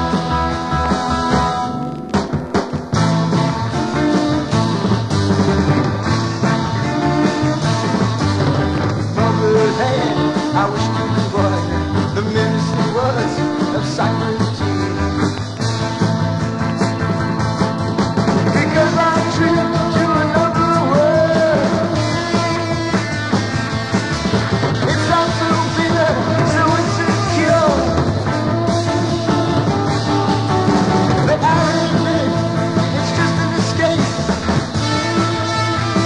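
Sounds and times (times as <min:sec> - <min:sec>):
psychedelic rock band playing: 0:00.0 - 0:36.0.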